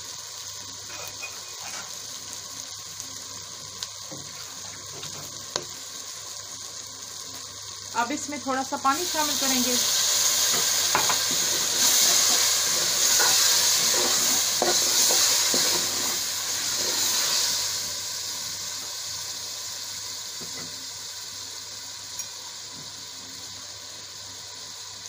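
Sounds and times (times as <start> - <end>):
sauce sizzling in hot oil: 0.0 - 25.0.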